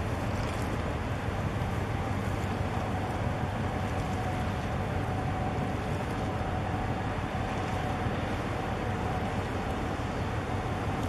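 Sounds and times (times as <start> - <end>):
boat engine drone: 0.0 - 11.0
rushing water: 0.0 - 11.0.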